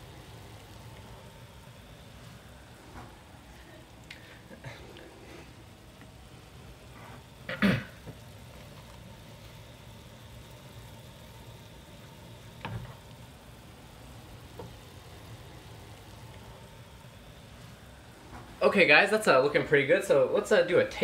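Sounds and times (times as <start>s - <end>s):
water boiling in saucepan: 0.0s - 21.0s.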